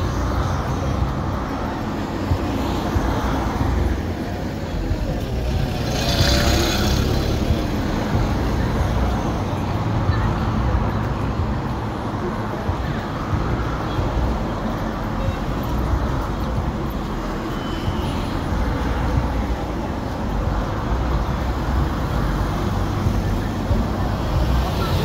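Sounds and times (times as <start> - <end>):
cars passing on busy road: 0.0 - 25.0.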